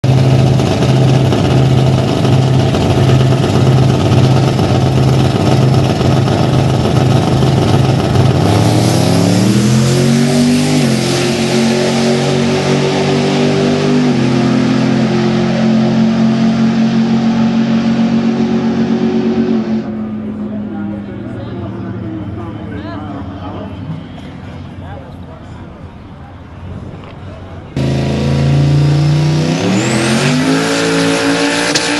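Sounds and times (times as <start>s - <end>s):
race truck engine revving: 0.0s - 24.8s, 27.8s - 31.9s.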